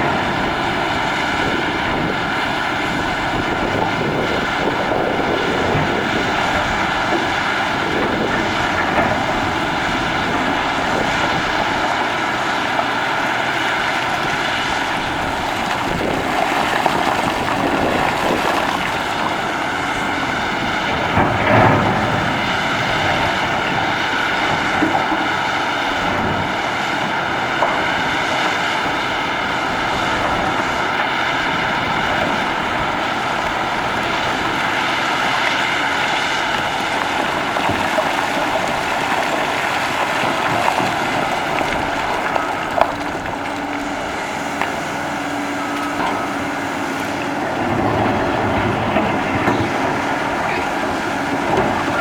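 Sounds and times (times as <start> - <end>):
excavator engine whining: 0.0 - 52.0.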